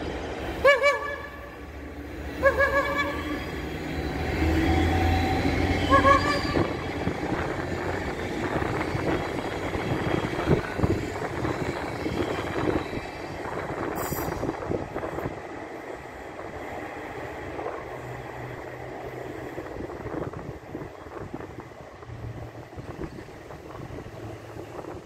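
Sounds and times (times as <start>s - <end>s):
passenger train rolling past: 0.0s - 25.0s.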